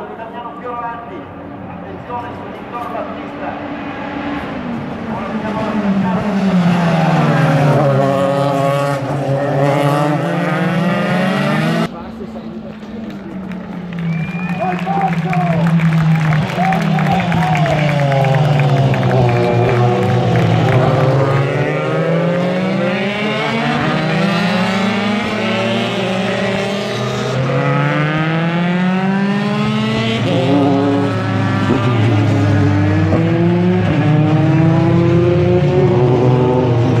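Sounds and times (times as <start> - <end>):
race car braking and downshifting: 0.0 - 37.0
race car engines accelerating: 0.0 - 37.0.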